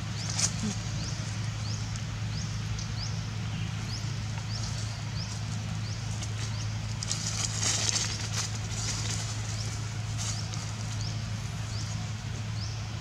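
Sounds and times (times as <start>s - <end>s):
rustling in dry leaves: 0.0s - 13.0s
steady low hum: 0.0s - 13.0s.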